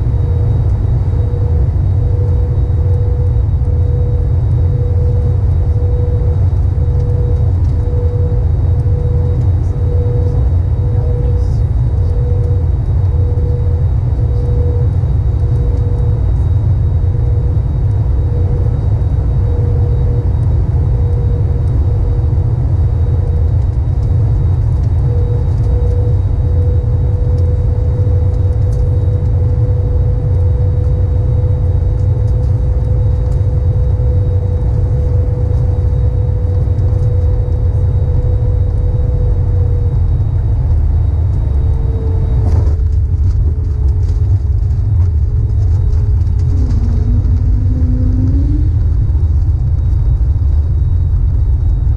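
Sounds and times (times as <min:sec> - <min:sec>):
aircraft engine and airflow rumble: 0:00.0 - 0:51.9.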